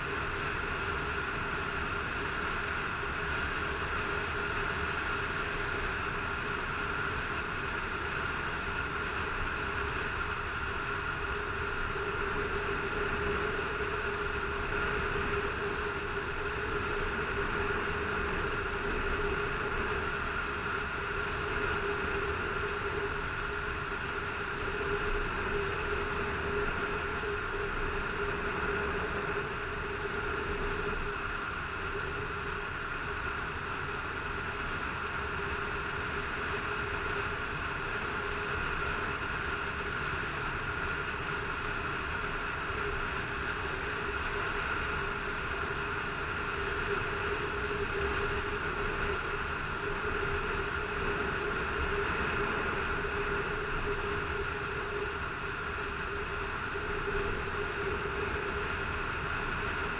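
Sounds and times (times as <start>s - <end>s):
wind and road rush: 0.0s - 59.9s.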